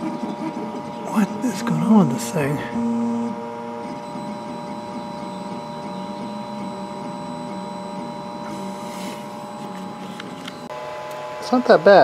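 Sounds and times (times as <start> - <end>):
printer stepper motors whining: 0.0 - 12.0
steady hum: 0.0 - 12.0.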